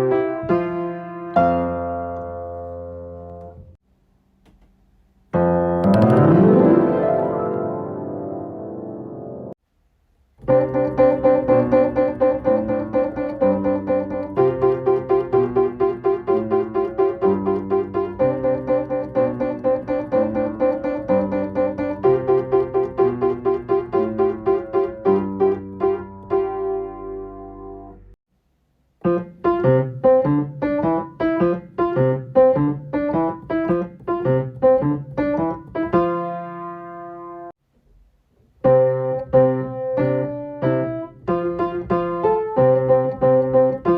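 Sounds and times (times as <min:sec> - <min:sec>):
piano playing children's song: 0:00.0 - 0:03.8, 0:05.4 - 0:09.6, 0:10.4 - 0:28.2, 0:29.0 - 0:37.6, 0:38.6 - 0:43.9.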